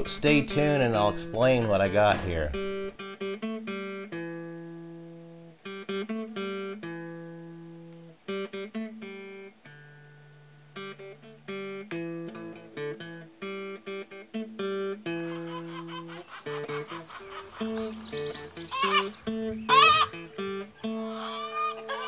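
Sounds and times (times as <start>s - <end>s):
acoustic guitar picking and strumming: 0.0s - 9.6s, 10.7s - 21.1s.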